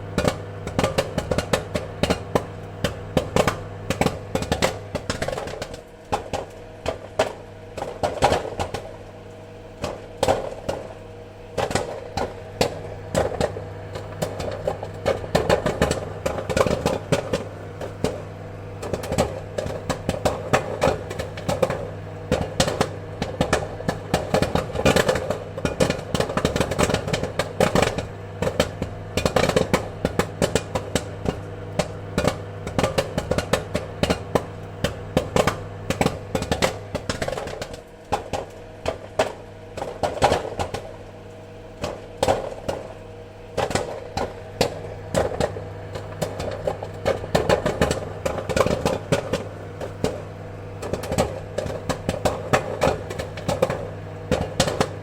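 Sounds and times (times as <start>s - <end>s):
popcorn popping: 0.0s - 55.0s
steady low hum: 0.0s - 55.0s.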